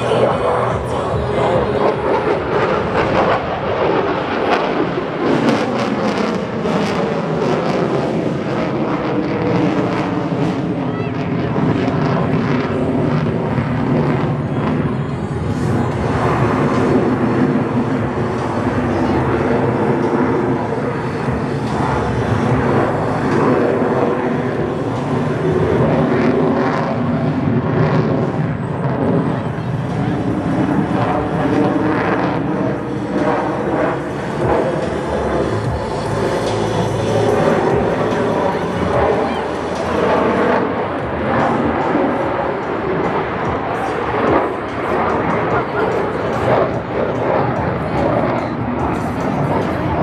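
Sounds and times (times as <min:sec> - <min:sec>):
jet engines roaring: 0:00.0 - 0:50.0.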